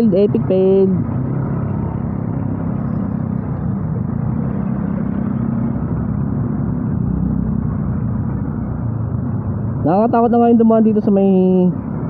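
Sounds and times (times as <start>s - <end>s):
motorcycle engine running: 0.0s - 12.0s
road rumble: 0.0s - 12.0s
wind: 0.0s - 12.0s.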